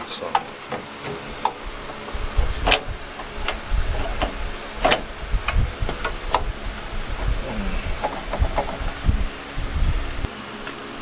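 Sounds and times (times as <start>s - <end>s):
metal panels clicking and knocking: 0.2s - 9.3s
low rumble: 1.3s - 10.3s.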